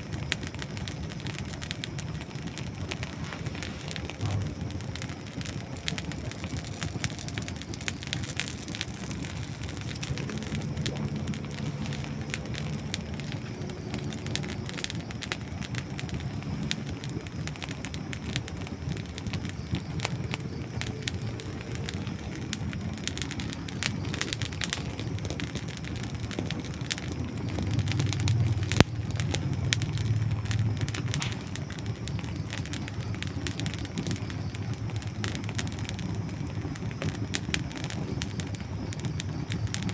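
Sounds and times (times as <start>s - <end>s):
flames rushing: 0.0s - 39.9s
wood crackling and popping: 0.0s - 39.9s.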